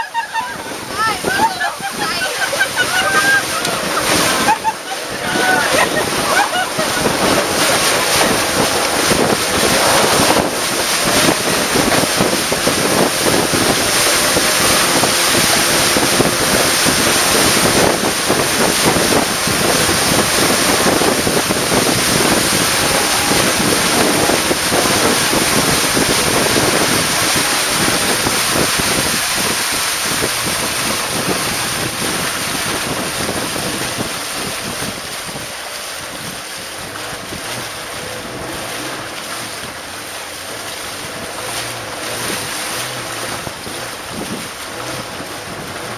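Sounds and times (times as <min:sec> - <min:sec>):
river water rushing past boat: 0:00.0 - 0:45.9
wind buffeting microphone: 0:00.0 - 0:45.9.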